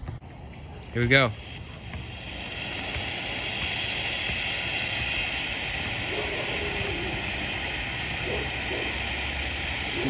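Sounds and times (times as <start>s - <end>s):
firework fountain hissing: 1.0s - 10.0s.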